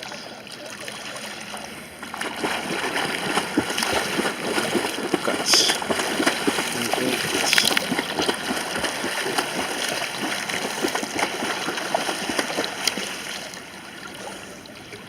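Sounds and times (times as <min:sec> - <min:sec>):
water splashing from swimming: 0:00.0 - 0:15.0.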